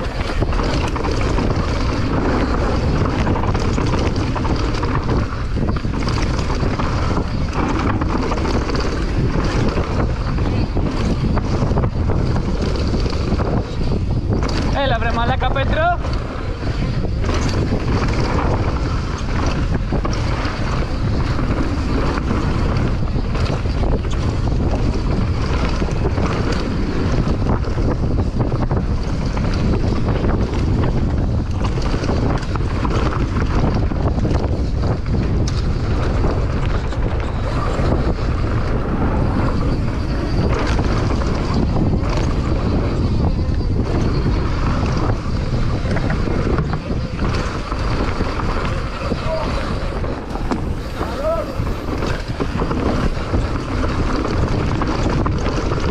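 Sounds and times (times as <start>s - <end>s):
bike rattling clicks and knocks: 0.0s - 55.9s
tyres rumbling on dirt trail: 0.0s - 55.9s
wind buffeting microphone: 0.0s - 55.9s.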